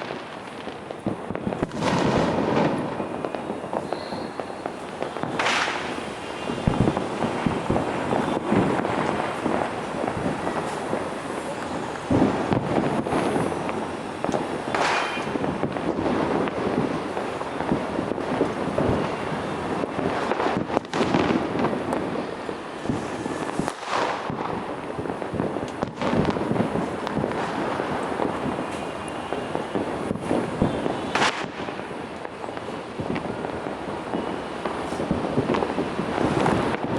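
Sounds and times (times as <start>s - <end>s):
fireworks crackling and banging: 0.0s - 36.9s.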